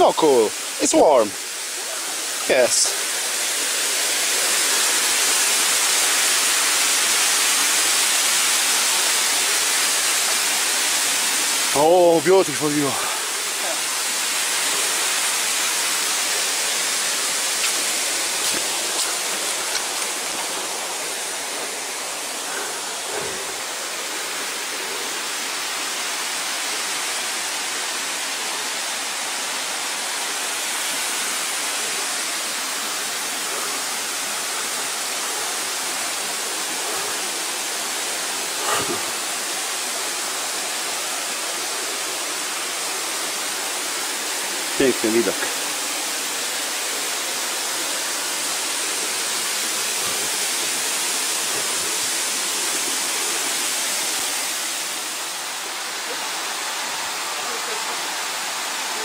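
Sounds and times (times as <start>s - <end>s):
waterfall and stream rushing: 0.0s - 59.0s.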